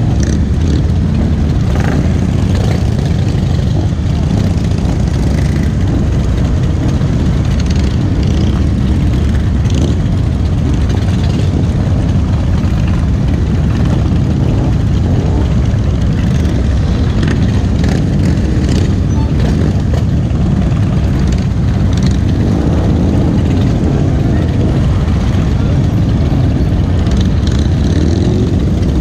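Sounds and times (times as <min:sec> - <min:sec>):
motorcycle engines rumbling: 0:00.0 - 0:29.0.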